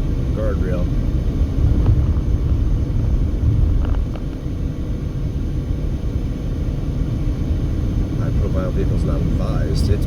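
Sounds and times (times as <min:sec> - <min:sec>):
road and wind noise inside car: 0:00.0 - 0:10.0.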